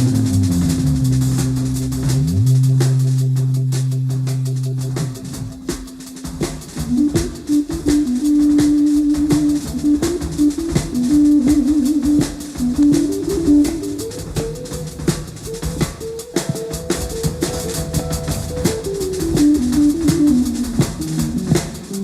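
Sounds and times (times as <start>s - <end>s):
drums keeping time: 0.0s - 22.0s.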